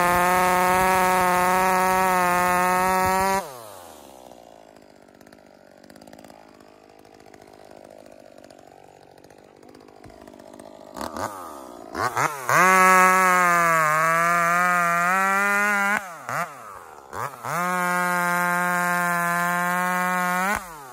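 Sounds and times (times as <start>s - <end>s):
chainsaw revving and idling: 0.0s - 20.9s.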